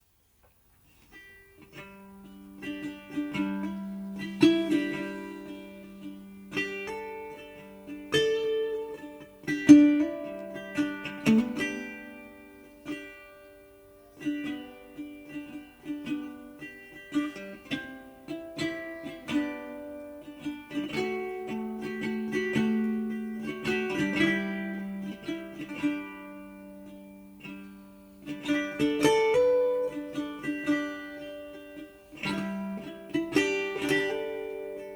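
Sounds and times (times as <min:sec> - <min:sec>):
plucked string instrument music: 0:00.0 - 0:34.9.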